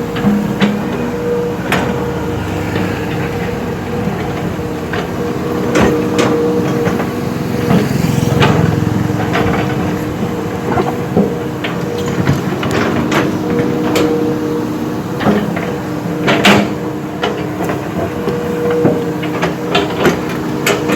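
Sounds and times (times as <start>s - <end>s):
heavy diesel machine running: 0.0s - 20.9s.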